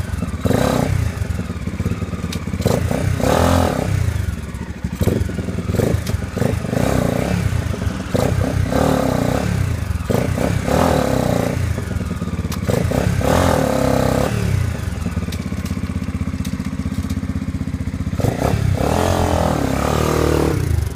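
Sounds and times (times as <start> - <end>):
motorcycle engine revving and idling: 0.0 - 20.9.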